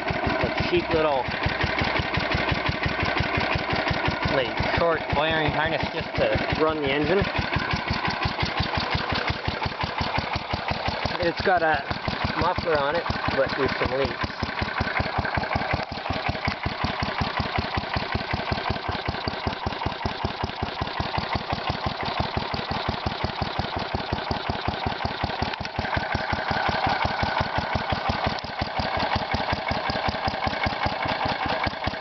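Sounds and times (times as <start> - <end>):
single-cylinder engine idling: 0.0 - 32.0.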